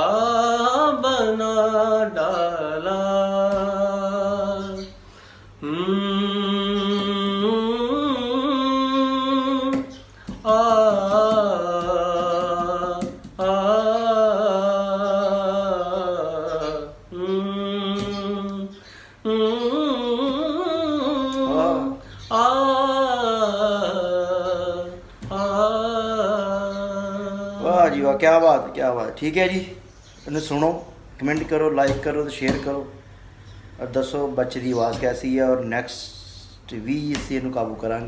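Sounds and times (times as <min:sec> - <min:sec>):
man singing unaccompanied: 0:00.0 - 0:38.0.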